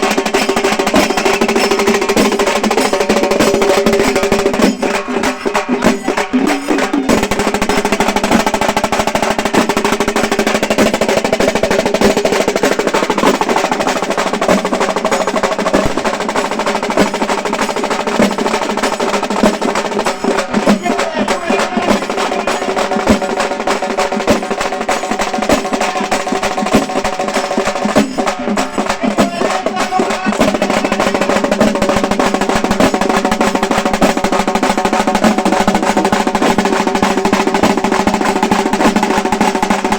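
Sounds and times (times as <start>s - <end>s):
frame drums rolling rhythm: 0.0s - 39.9s.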